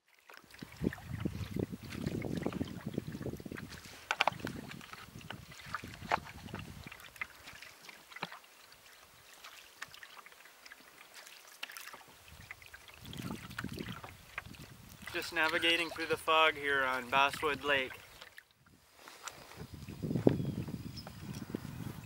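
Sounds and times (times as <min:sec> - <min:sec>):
paddle splashing in water: 0:00.0 - 0:21.3.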